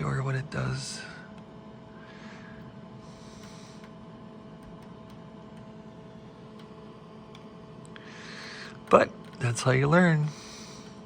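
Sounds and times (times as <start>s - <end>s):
oscilloscope hum and whine: 0.0s - 11.0s.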